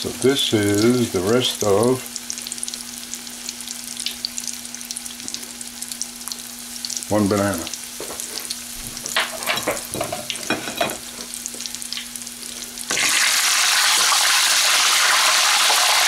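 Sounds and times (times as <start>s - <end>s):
loud steady sizzle: 0.0s - 16.0s
oil crackling and popping: 0.0s - 16.0s.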